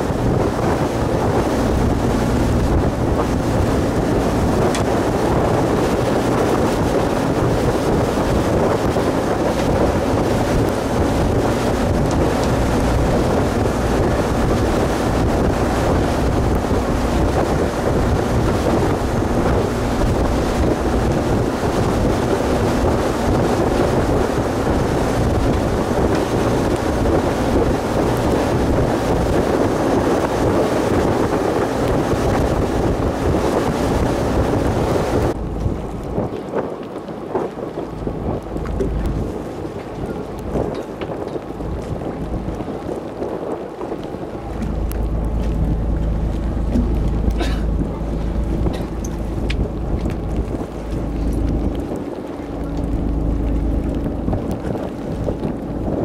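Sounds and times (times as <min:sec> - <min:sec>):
boat engine running: 0:00.0 - 0:56.0
water washing past: 0:00.0 - 0:56.0
wind noise on microphone: 0:00.0 - 0:56.0.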